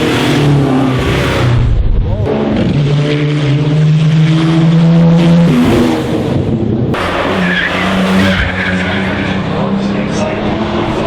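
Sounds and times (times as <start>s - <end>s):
racing car engine: 0.0s - 11.0s.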